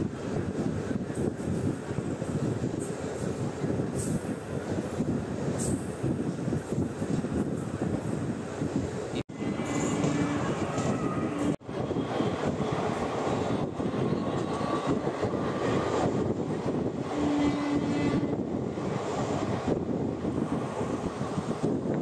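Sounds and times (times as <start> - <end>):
moving train rumble: 0.0 - 22.0.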